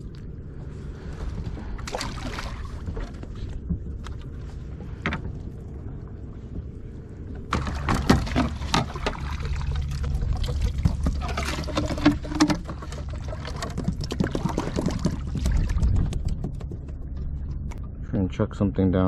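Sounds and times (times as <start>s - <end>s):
water lapping against kayak hull: 0.0s - 17.2s.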